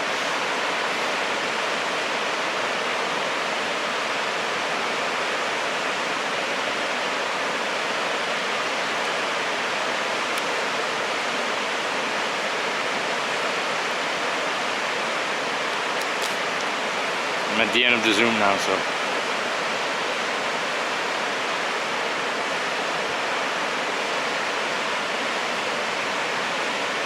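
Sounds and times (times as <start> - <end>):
fast-flowing water rushing: 0.0 - 27.0.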